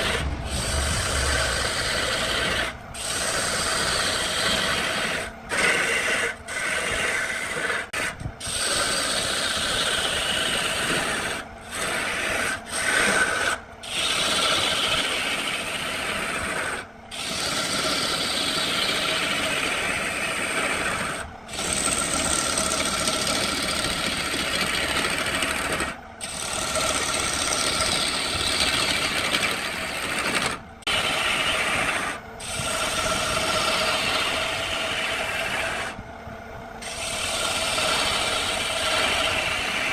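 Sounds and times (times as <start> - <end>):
lathe chisel shearing wood: 0.0 - 36.0, 36.8 - 39.9.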